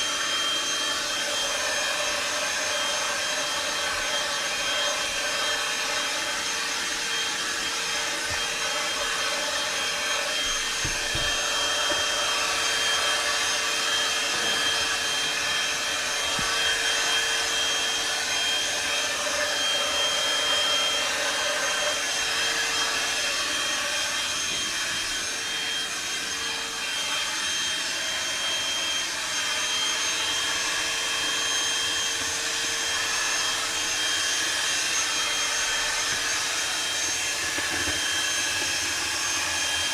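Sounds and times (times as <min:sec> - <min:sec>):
handheld vacuum cleaner running: 0:00.0 - 0:39.9.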